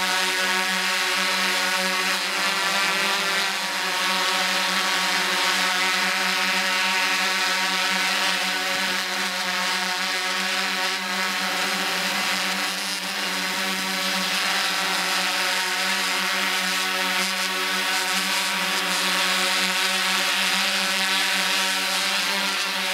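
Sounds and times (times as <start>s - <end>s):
drone motors buzzing: 0.0s - 22.9s.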